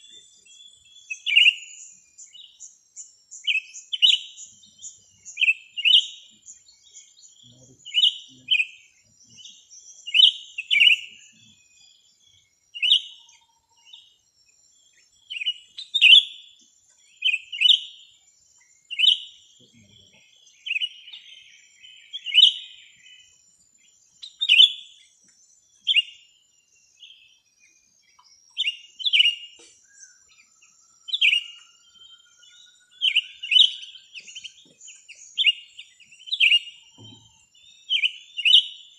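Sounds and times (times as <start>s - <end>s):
small songbird chirping: 0.0s - 38.9s.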